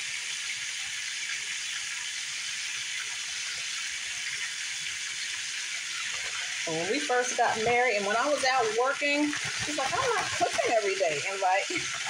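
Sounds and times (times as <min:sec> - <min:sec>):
steaks sizzling in oil: 0:00.0 - 0:12.0.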